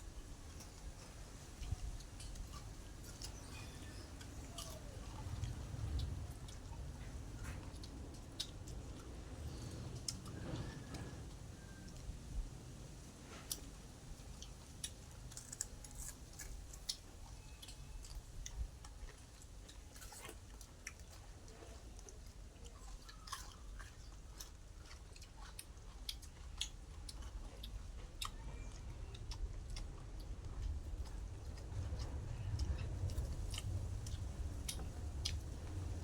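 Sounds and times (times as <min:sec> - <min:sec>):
person chewing food: 0:00.4 - 0:12.2, 0:13.0 - 0:36.0.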